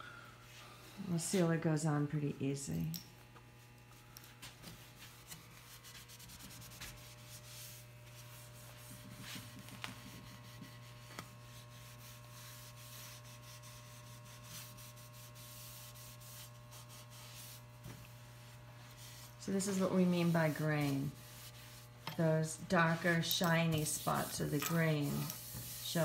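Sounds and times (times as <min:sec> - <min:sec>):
cloth rubbing on wood: 0:03.9 - 0:26.0.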